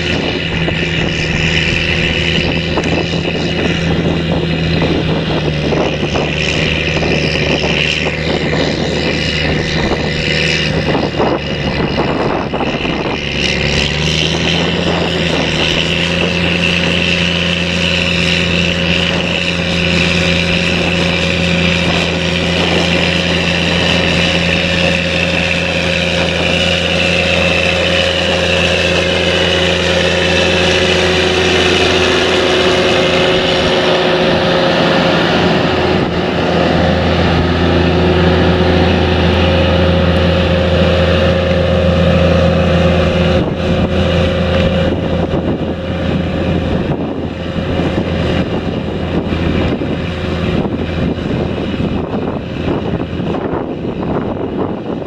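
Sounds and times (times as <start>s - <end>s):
high whine: 0.0s - 55.0s
tractor diesel engine running: 0.0s - 55.0s.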